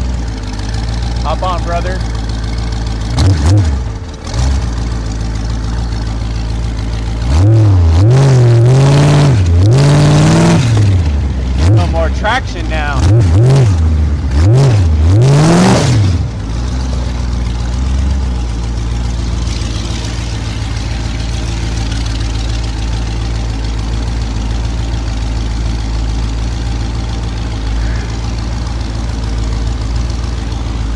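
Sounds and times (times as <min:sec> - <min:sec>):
motorcycle engine revving and running: 0:00.0 - 0:30.9.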